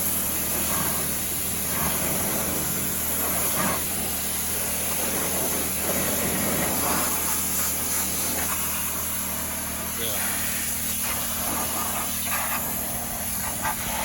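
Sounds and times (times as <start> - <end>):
pressure washer engine hum: 0.0 - 14.0
water jet spraying tires: 0.0 - 14.0.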